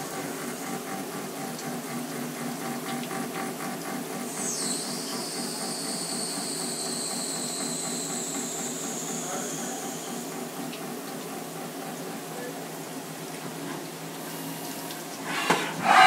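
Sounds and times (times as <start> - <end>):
milling machine noise: 0.0 - 13.3, 15.0 - 16.0.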